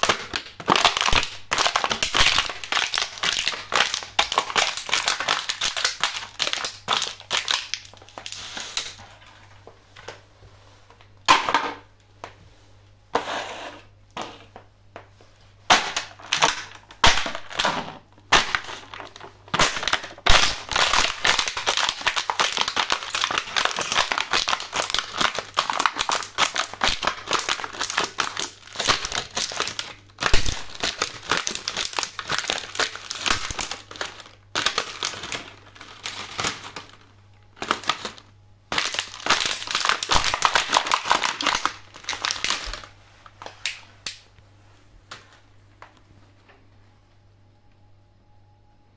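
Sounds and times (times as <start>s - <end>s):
plastic trays crackling and crunching: 0.0s - 10.3s, 14.1s - 44.4s.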